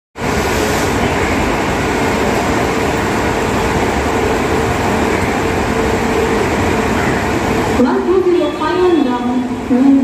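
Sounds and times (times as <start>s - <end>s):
train rumble: 0.2s - 10.0s.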